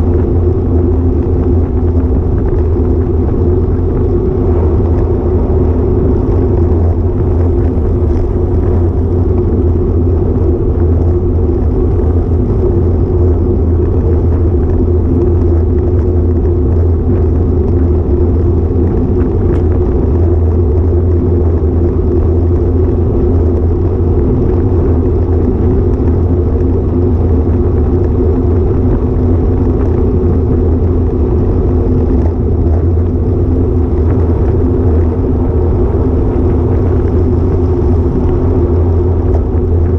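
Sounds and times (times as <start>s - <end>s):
road noise: 0.0s - 39.9s
wind buffeting: 0.0s - 39.9s.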